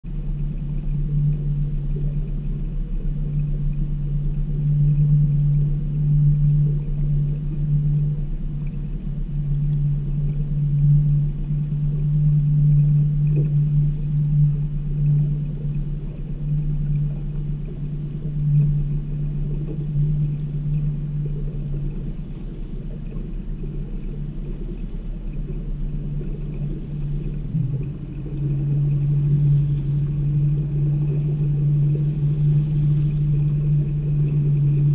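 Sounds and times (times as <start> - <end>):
boat motor humming: 0.0 - 34.9.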